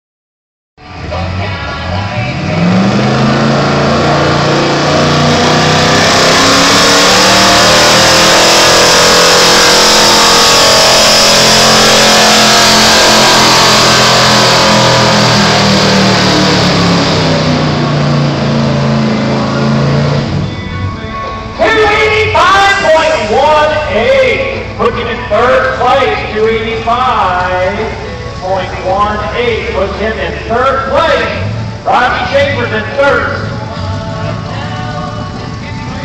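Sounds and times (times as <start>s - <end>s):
truck engine at full throttle: 0.8s - 36.0s.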